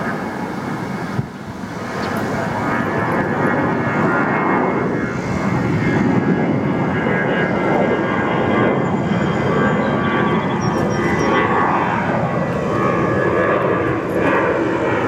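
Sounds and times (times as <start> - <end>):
jet engine rush: 0.0 - 15.0.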